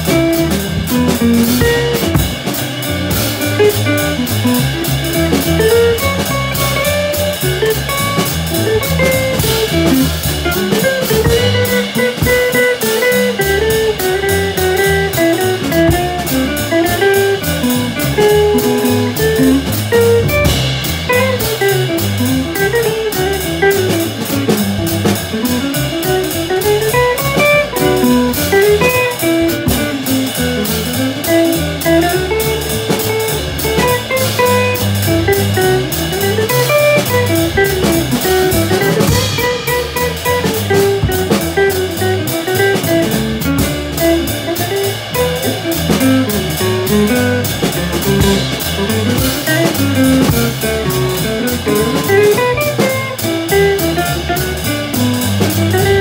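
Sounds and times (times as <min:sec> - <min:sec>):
drum kit: 0:00.0 - 0:56.0
guitar melody: 0:00.0 - 0:56.0
plucked upright bass: 0:00.0 - 0:56.0.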